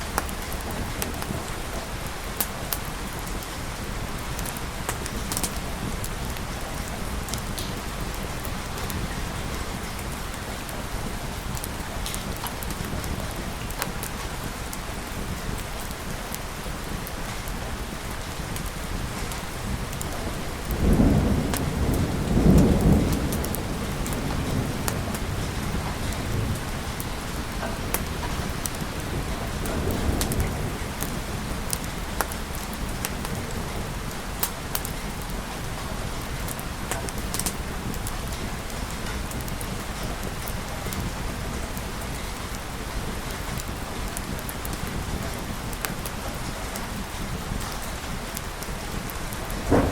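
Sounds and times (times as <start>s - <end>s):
heavy rain: 0.0s - 49.9s
thunder rumbling: 0.0s - 49.9s.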